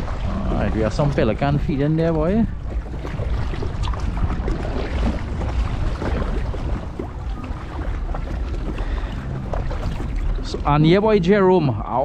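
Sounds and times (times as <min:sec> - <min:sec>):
water splashing around boat: 0:00.0 - 0:12.0
wind buffeting microphone: 0:00.0 - 0:12.0.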